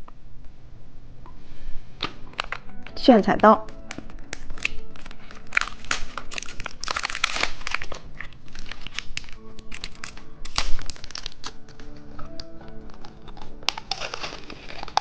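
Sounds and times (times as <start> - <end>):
faint background music: 0.0 - 15.0
plastic packaging crinkling: 2.0 - 3.0, 3.6 - 15.0.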